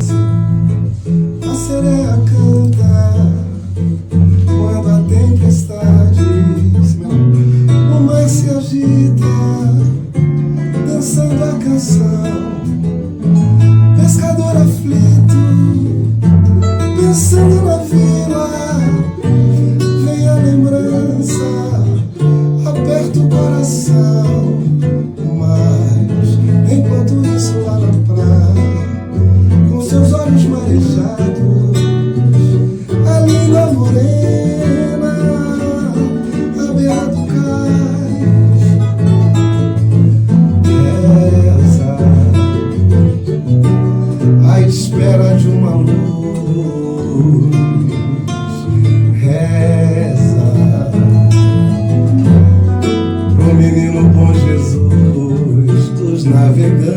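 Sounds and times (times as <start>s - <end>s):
acoustic guitar strumming: 0.0s - 56.9s
bass line: 0.0s - 56.9s
man singing lead vocal: 0.0s - 56.9s.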